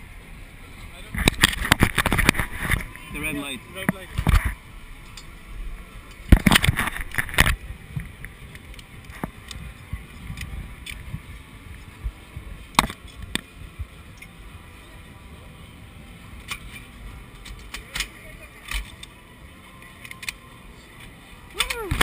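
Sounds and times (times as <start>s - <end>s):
low rumble of fairground noise: 0.0s - 22.0s.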